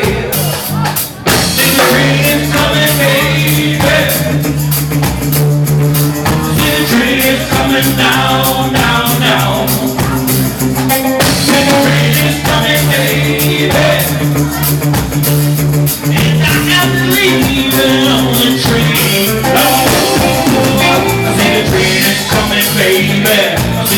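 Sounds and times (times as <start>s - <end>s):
drums keeping a steady beat: 0.0s - 23.9s
live rock band playing: 0.0s - 23.9s.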